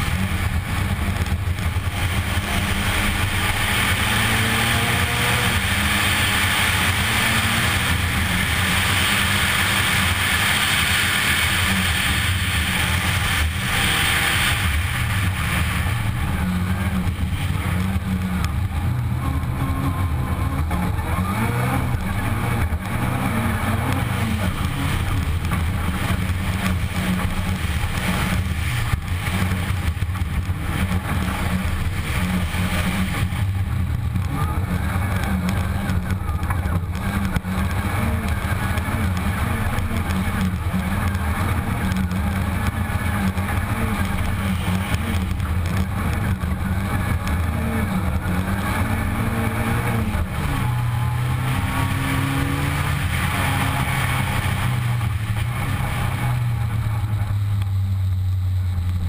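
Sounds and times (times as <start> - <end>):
gravel hissing under tyres: 0.0 - 59.0
rally car engine revving: 0.0 - 59.0.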